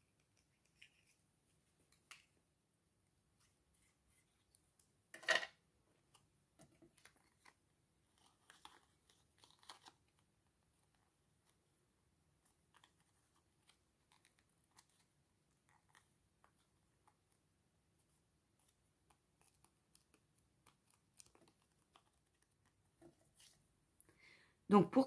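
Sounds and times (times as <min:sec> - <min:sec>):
paper rustling and small clicks: 0:00.0 - 0:02.4, 0:03.4 - 0:11.7, 0:12.4 - 0:23.7.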